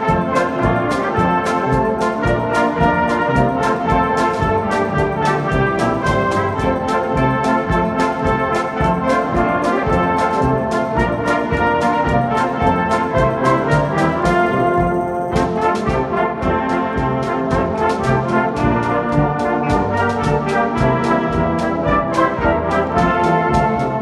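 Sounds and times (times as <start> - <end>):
wind band playing chords: 0.0 - 24.0.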